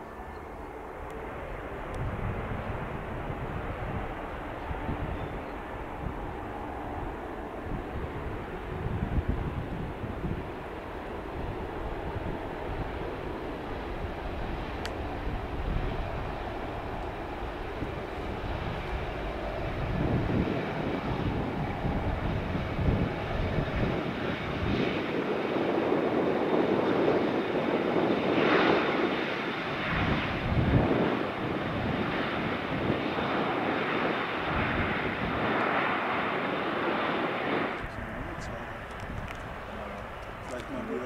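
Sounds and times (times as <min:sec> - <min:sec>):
jet engines at high power: 0:00.0 - 0:41.0.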